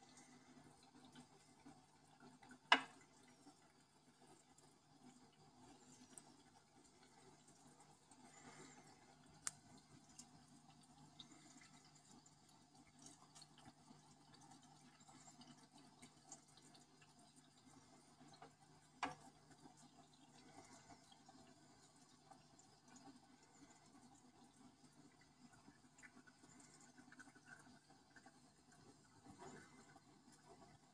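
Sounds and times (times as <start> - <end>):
aquarium water sounds: 0.0 - 30.9
small ticks: 0.1 - 30.9.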